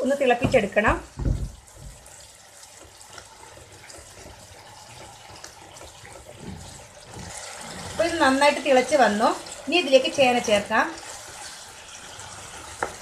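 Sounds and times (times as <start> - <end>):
spatula stirring wet sauce: 0.2 - 13.0.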